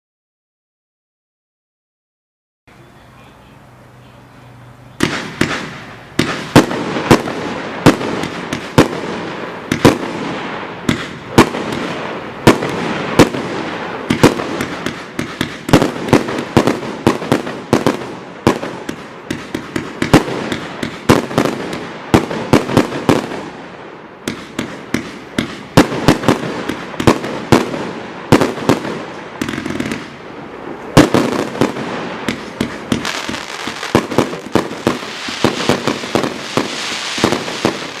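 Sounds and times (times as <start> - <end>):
firework crackling: 2.8 - 38.0
firework bangs: 5.0 - 38.0.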